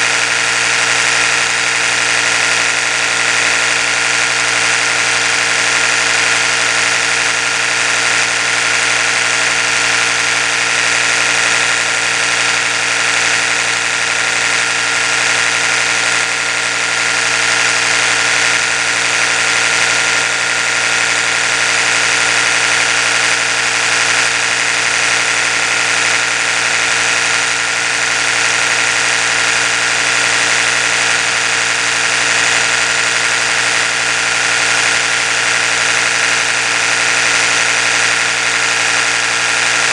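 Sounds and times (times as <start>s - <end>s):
electric toothbrush humming: 0.0s - 39.9s.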